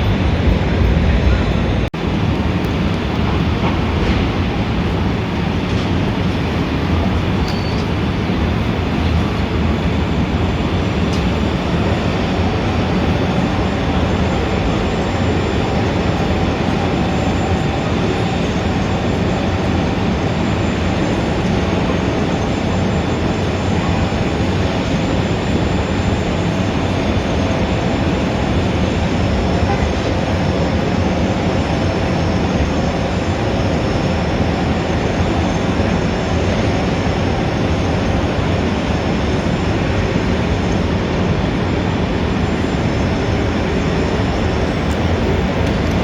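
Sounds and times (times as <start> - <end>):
city traffic rumble: 0.0 - 46.0.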